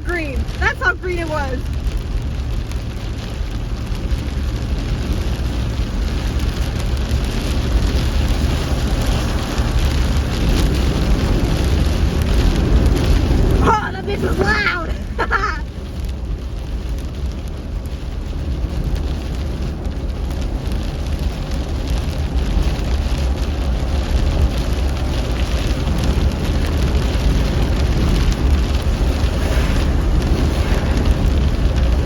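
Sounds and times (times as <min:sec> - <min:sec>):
car driving rumble: 0:00.0 - 0:32.0
rain on car roof: 0:00.0 - 0:32.0.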